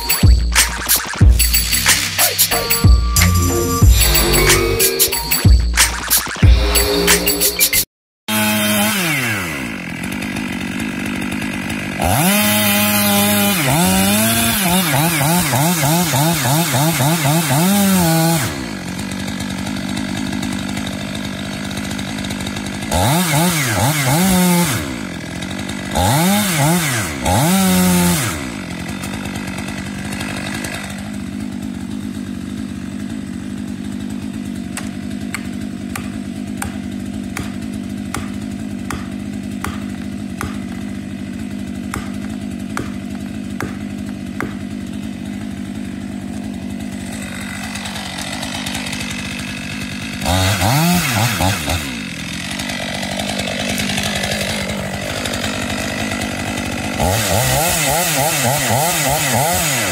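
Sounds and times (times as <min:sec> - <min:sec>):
chainsaw revving and idling: 0:01.4 - 0:06.0, 0:08.3 - 0:59.9.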